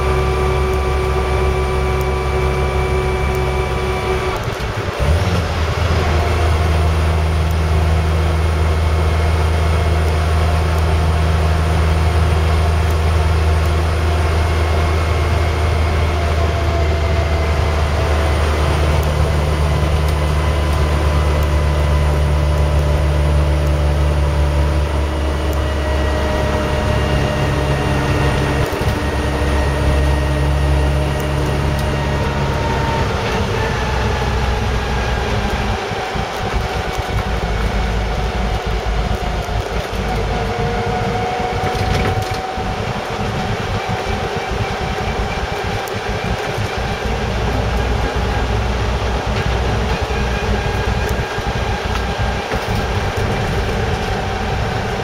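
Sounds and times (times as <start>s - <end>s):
engine and drivetrain drone: 0.0s - 55.0s
gear change: 0.0s - 55.0s
noisy back axle: 0.0s - 55.0s.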